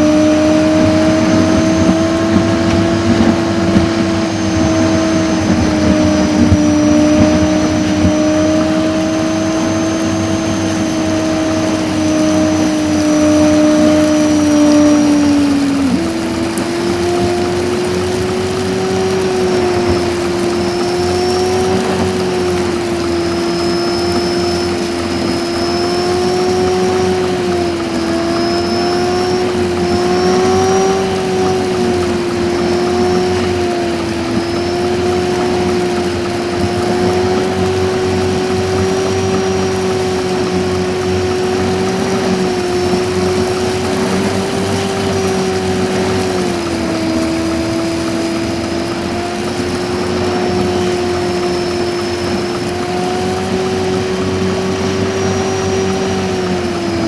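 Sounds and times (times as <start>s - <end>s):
high-pitched sped-up engine drone: 0.0s - 57.0s.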